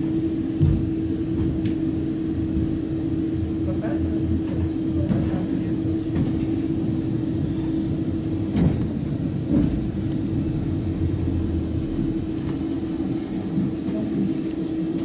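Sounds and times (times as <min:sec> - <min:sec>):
tram humming and rumbling: 0:00.0 - 0:15.0.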